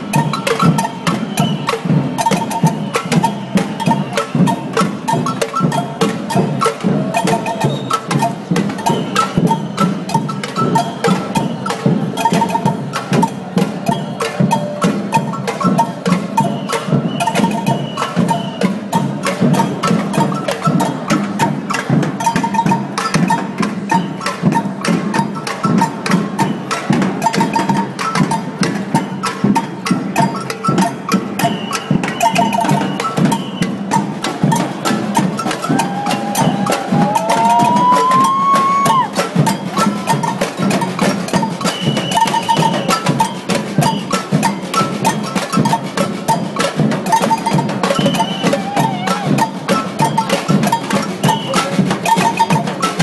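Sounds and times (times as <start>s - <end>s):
clacking bell-like hand percussion: 0.0s - 53.0s
samba drumming band: 0.0s - 53.0s.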